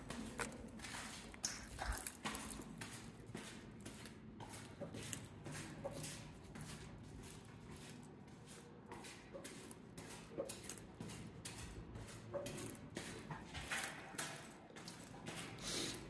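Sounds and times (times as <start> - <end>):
footsteps on gritty concrete: 0.0 - 15.6.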